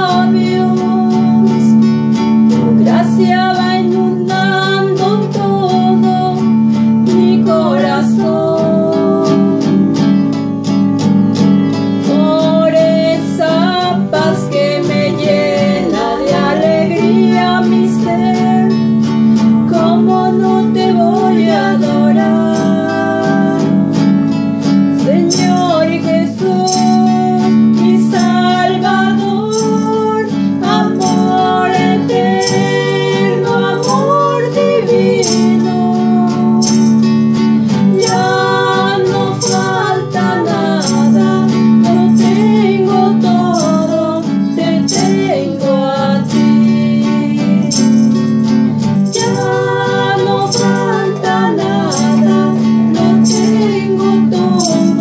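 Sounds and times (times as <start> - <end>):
person singing a hymn: 0.0 - 10.4, 12.0 - 19.0, 19.6 - 24.0, 25.0 - 48.3, 49.0 - 55.0
strummed acoustic guitar: 0.0 - 55.0.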